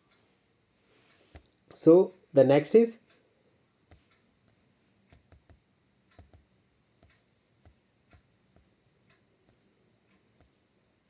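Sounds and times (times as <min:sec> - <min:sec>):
faint irregular clicks: 0:00.1 - 0:02.4, 0:03.0 - 0:11.0.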